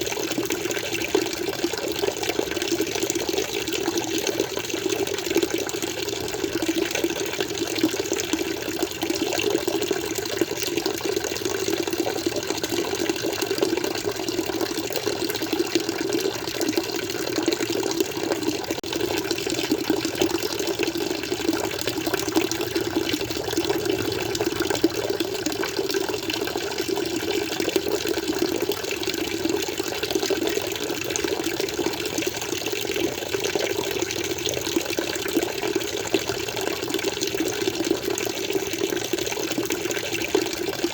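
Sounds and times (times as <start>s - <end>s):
water flowing: 0.0s - 40.9s.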